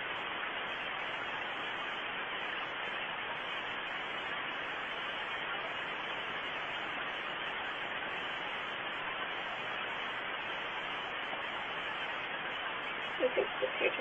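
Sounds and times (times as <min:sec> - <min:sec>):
microphone static hiss: 0:00.0 - 0:14.0.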